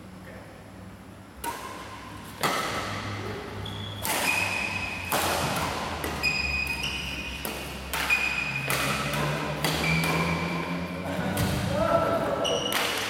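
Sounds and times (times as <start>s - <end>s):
racket hitting shuttlecock: 1.4s - 13.0s.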